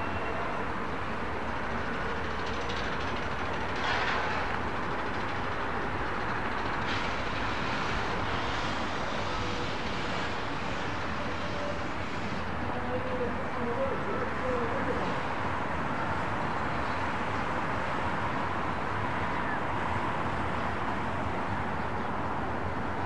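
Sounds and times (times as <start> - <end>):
train rolling on track: 0.0 - 23.0.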